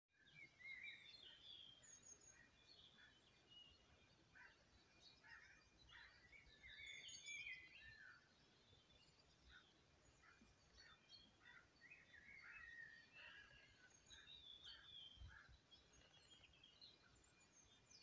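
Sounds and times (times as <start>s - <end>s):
small birds singing and chirping: 0.1s - 18.0s.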